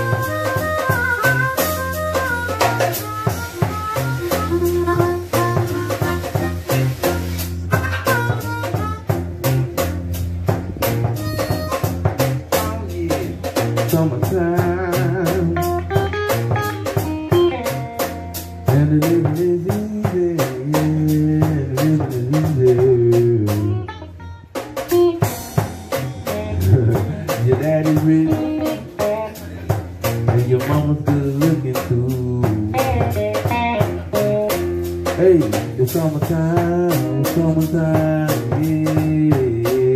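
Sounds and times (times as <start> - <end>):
blues band playing: 0.0 - 39.9.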